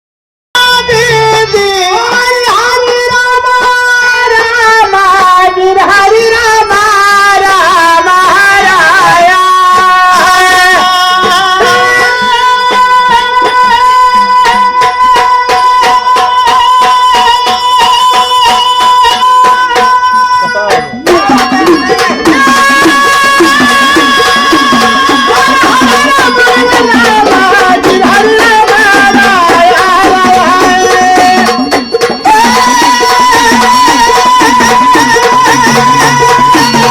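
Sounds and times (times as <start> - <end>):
drums beaten in fast rhythm: 0.6 - 36.9.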